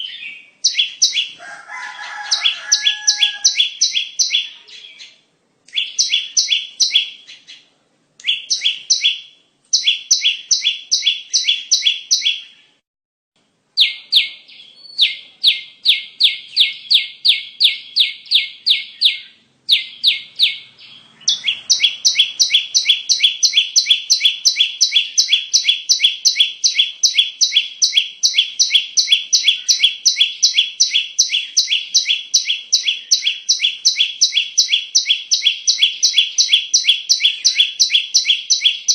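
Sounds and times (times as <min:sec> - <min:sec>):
bird chirps: 0:00.0 - 0:12.8, 0:13.8 - 0:38.9.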